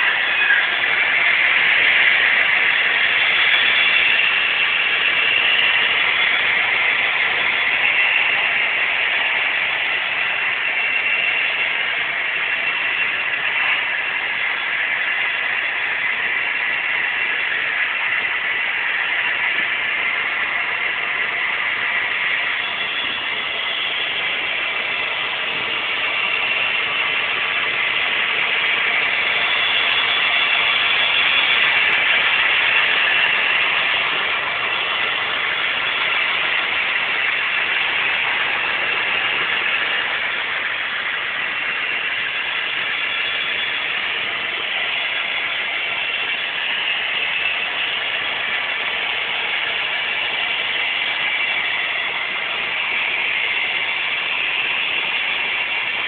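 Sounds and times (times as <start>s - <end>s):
model trains whirring on rails: 0.0s - 56.0s.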